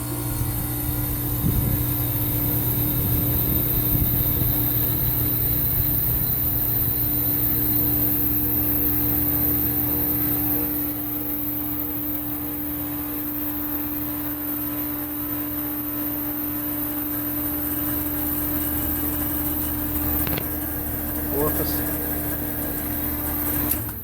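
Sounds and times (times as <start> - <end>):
heat pump humming: 0.0 - 24.0.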